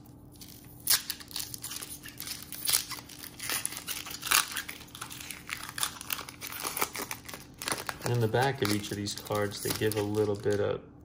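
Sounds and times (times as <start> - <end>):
foil wrapper crinkling: 0.0 - 10.7.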